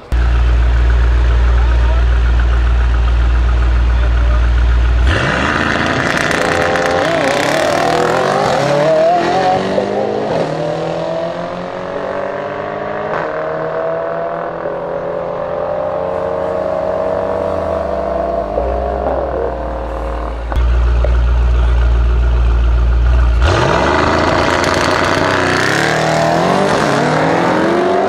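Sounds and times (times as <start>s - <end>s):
car engines at full throttle: 0.0s - 28.0s.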